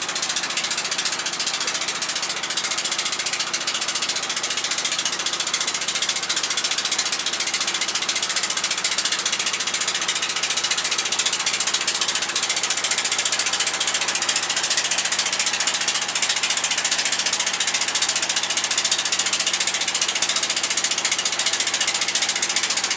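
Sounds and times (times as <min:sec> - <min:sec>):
boat engine clattering: 0:00.0 - 0:22.9.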